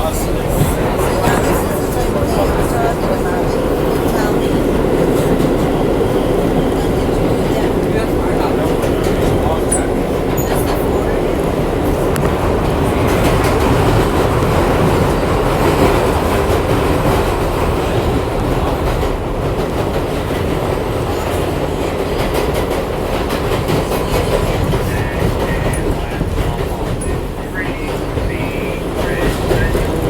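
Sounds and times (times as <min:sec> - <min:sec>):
subway train rumbling: 0:00.0 - 0:30.0.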